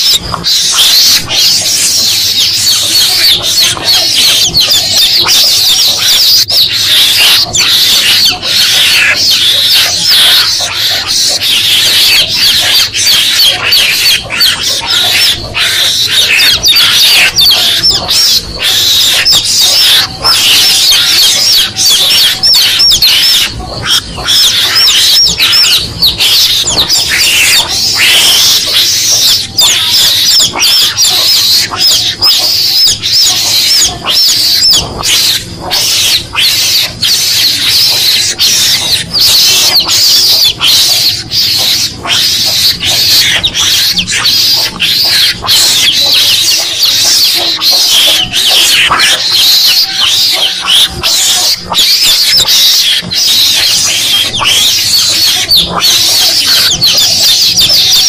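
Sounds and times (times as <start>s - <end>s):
chicks peeping: 0.0s - 58.0s
mongoose chirping and chattering: 0.0s - 58.0s.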